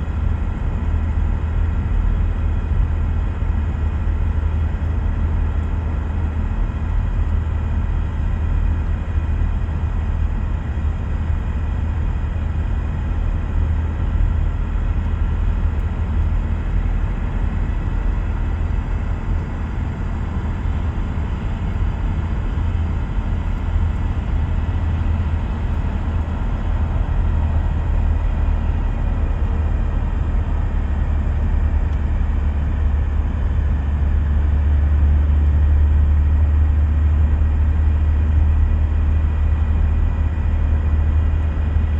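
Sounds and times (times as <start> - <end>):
car driving low rumble: 0.0 - 41.9.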